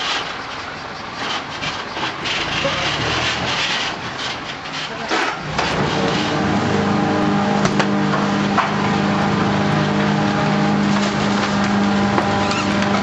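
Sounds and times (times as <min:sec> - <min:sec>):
garbage truck scraping: 0:00.0 - 0:13.0
truck engine humming: 0:00.0 - 0:13.0.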